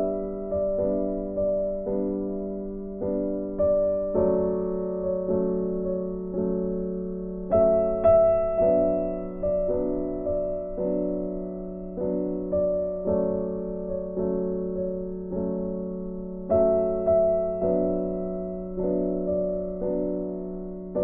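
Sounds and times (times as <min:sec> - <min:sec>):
soft piano chords: 0:00.0 - 0:21.0.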